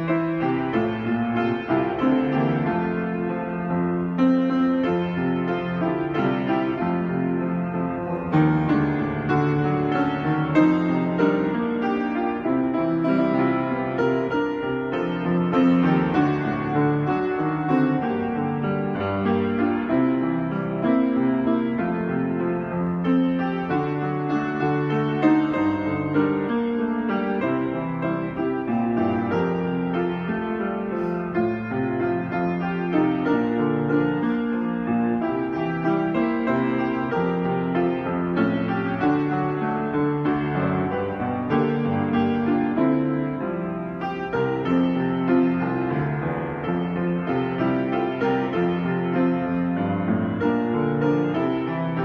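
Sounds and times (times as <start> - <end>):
grand piano playing: 0.0 - 52.0.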